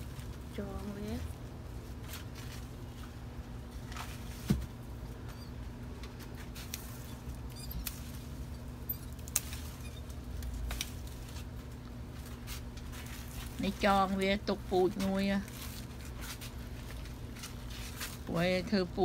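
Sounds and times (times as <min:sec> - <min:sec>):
rustling of leafy vines: 0:00.0 - 0:19.0.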